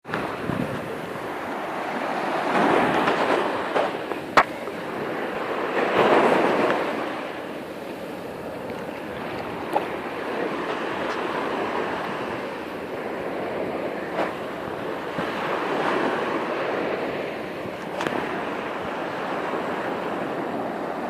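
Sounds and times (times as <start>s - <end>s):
sea waves washing onto shore: 0.0s - 21.0s.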